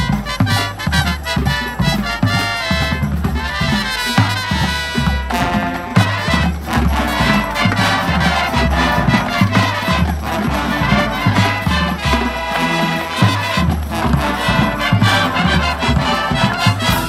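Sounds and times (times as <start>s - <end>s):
brass winds playing: 0.0s - 17.0s
drum and cymbal strikes: 0.0s - 17.0s.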